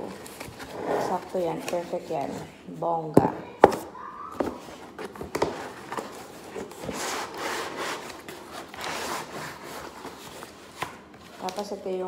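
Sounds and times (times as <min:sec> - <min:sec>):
packing paper rustling and scraping: 0:00.0 - 0:02.5, 0:04.4 - 0:12.0.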